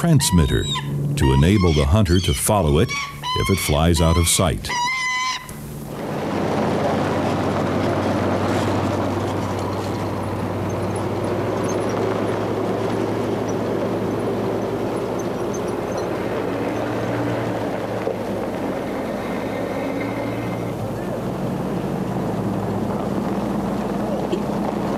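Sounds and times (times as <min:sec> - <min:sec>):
vehicles driving over gravel: 0:00.0 - 0:24.9.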